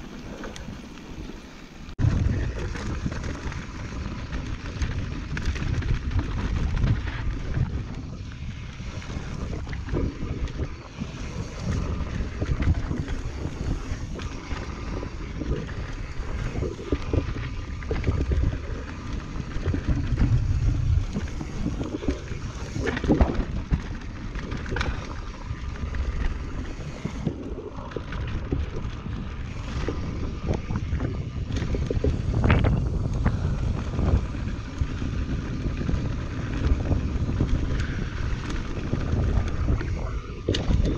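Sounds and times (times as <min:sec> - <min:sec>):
tyres rumbling on dirt and rock: 0:00.0 - 0:40.9
wind buffeting microphone: 0:00.0 - 0:40.9.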